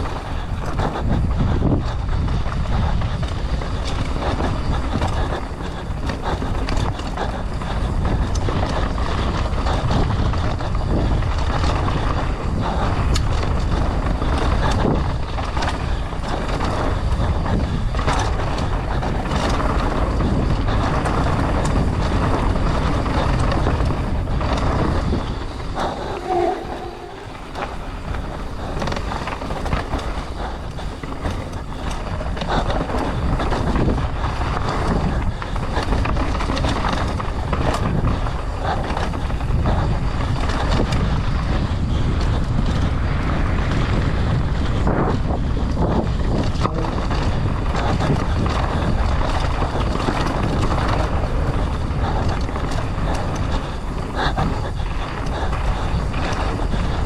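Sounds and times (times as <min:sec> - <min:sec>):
bike knocking and rattling: 0:00.0 - 0:57.0
wind rushing over microphone: 0:00.0 - 0:57.0.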